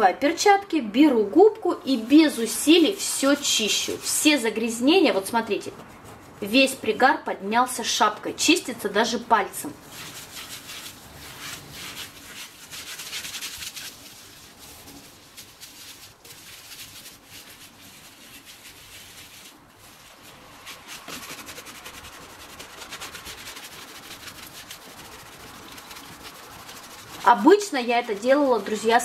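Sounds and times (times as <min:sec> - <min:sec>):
sponge scrubbing a wet cooktop: 0:01.6 - 0:07.2, 0:09.8 - 0:29.0.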